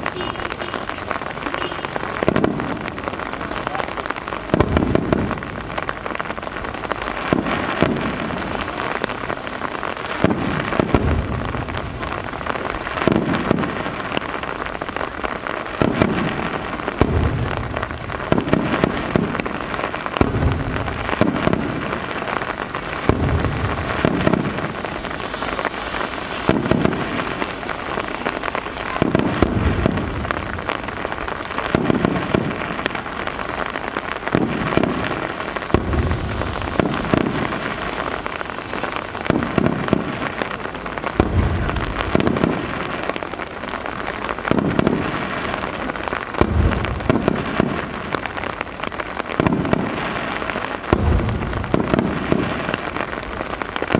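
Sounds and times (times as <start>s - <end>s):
deep fireworks booms: 0.0s - 53.9s
steady rain falling: 0.0s - 53.9s.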